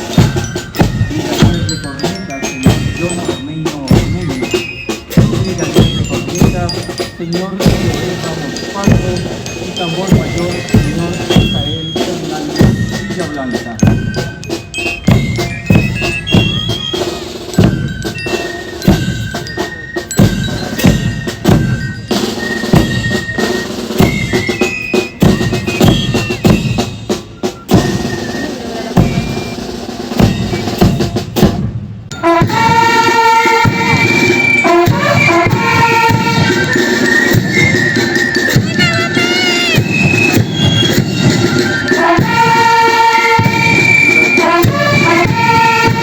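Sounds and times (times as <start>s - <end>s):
bugles sustained notes: 0.0s - 31.2s, 32.1s - 46.0s
snare and bass drums marching: 0.0s - 46.0s.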